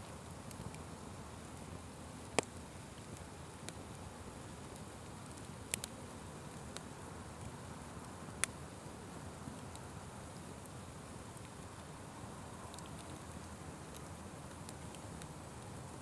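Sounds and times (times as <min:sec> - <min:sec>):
wood fire crackling and popping: 0:00.1 - 0:16.0.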